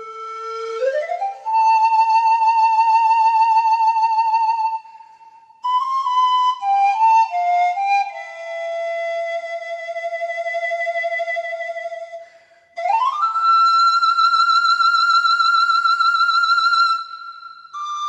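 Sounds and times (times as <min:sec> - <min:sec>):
pan flute melody: 0:00.0 - 0:04.9, 0:05.6 - 0:18.0.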